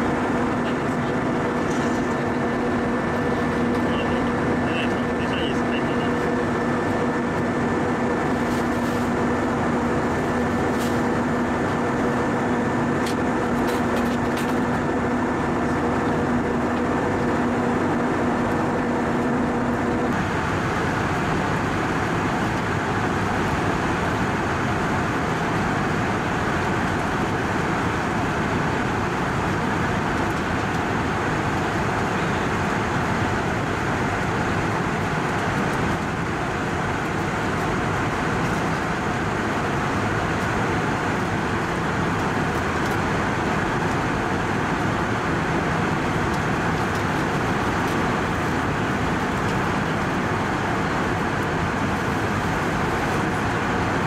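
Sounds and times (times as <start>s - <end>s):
airplane cabin noise: 0.0s - 54.0s
steady hum: 0.0s - 54.0s.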